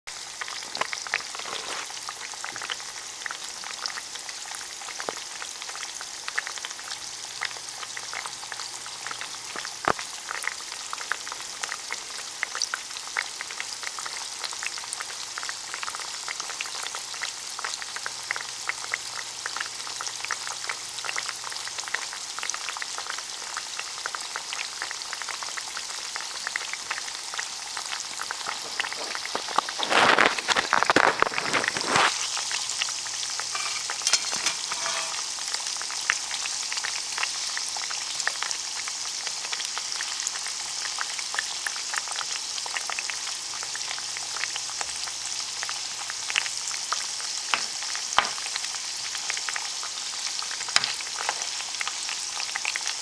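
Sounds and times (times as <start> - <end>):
fries sizzling in oil: 0.1 - 53.0.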